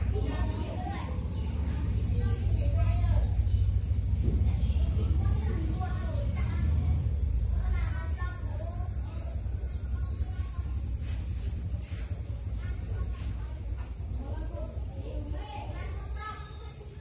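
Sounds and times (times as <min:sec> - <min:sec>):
low steady hum: 0:00.0 - 0:16.8
insect trilling: 0:00.0 - 0:17.0.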